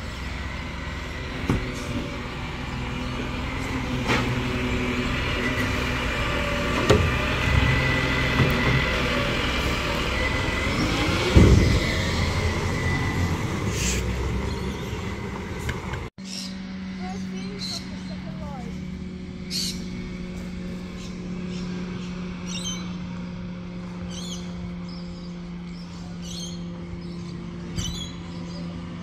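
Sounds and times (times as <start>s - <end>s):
garbage truck engine running: 0.0s - 29.0s.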